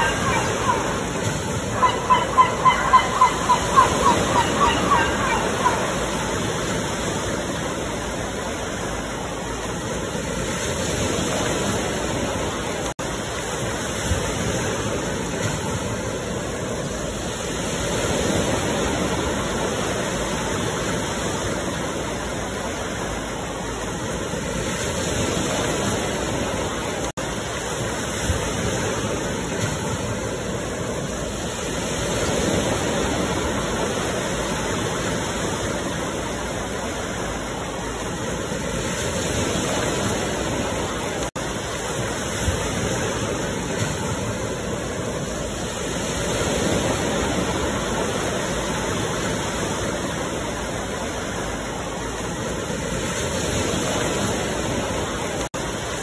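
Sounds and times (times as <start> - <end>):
ocean surf washing ashore: 0.0 - 56.0.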